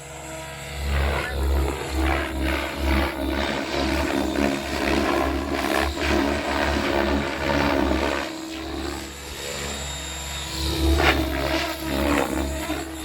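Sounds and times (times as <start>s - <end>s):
rc helicopter rotor whirring: 0.0s - 13.0s.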